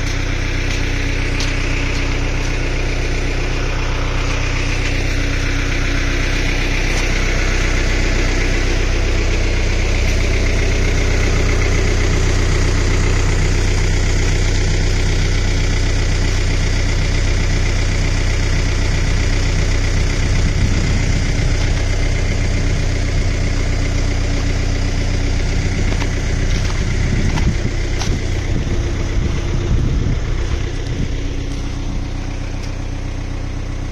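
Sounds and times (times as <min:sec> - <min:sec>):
tractor engine idling: 0:00.0 - 0:33.9.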